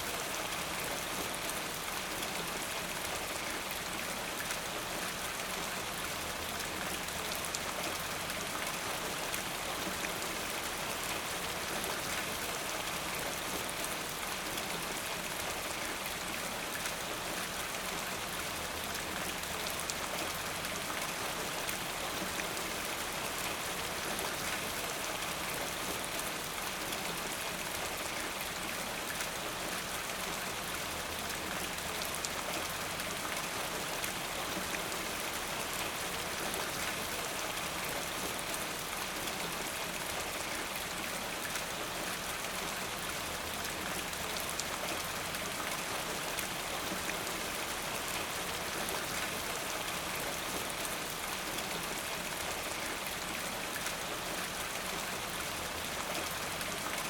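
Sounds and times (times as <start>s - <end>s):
rain drops ticking on a surface: 0.0s - 57.0s.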